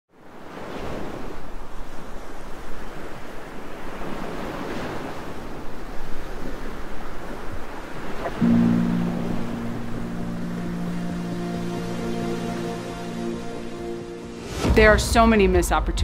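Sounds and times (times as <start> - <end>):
ocean waves breaking on beach: 0.1 - 14.4.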